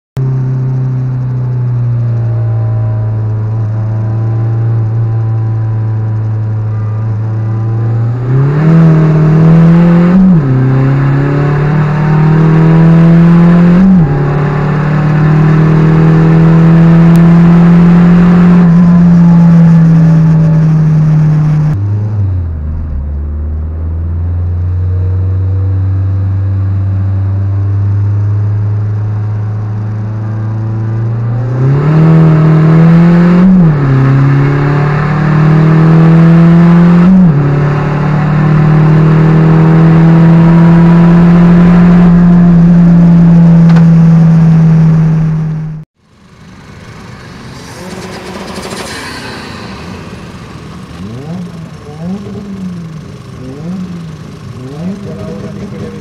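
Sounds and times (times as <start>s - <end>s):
diesel car engine accelerating: 0.2s - 56.0s.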